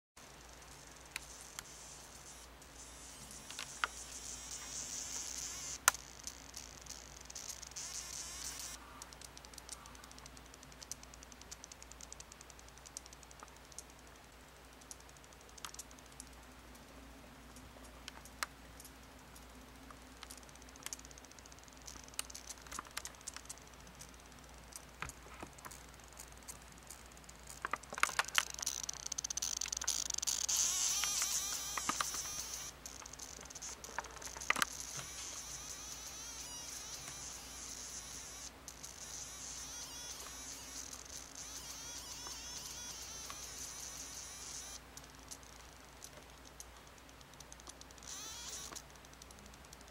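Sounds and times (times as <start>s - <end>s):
faint clicks: 0.2s - 49.9s.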